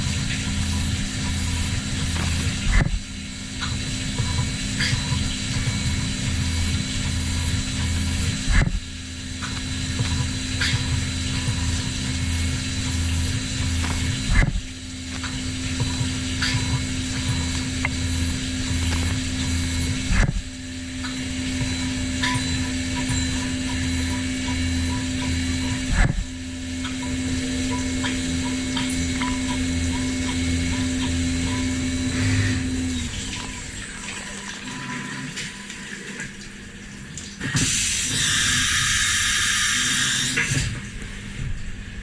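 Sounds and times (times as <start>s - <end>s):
milling machine cutting metal: 0.0s - 33.7s, 37.6s - 40.7s.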